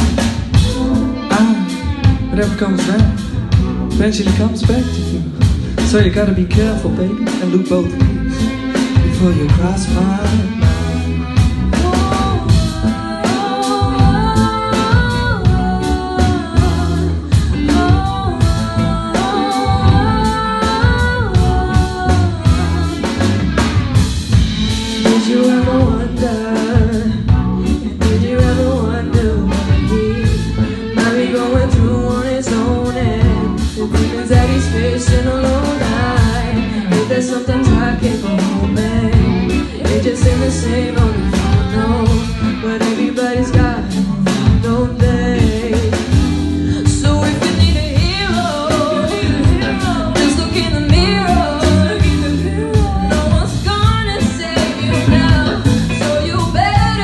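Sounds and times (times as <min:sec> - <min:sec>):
drums: 0:00.0 - 0:57.0
electric bass: 0:00.0 - 0:57.0
guitar: 0:00.0 - 0:57.0
women singing: 0:07.1 - 0:57.0.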